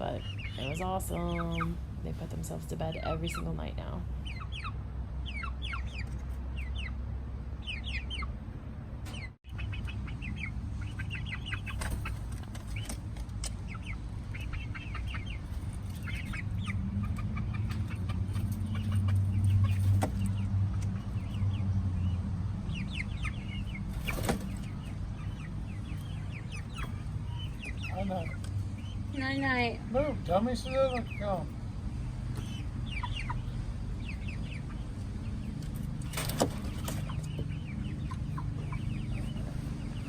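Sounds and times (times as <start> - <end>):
chicks peeping and chirping: 0.0 - 40.0.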